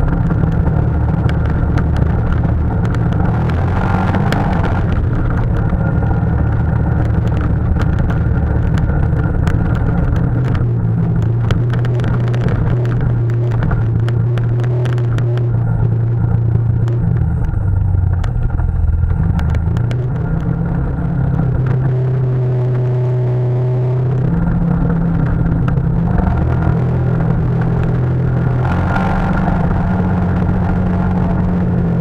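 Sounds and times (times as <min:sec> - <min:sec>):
knocks and clicks over bumps: 0:00.0 - 0:32.0
quad engine droning: 0:00.0 - 0:32.0.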